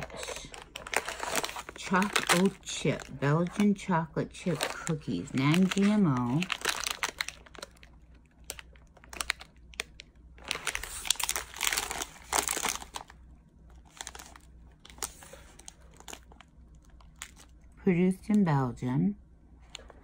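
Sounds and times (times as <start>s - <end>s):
snack bag rustling and crackling: 0.0s - 17.7s.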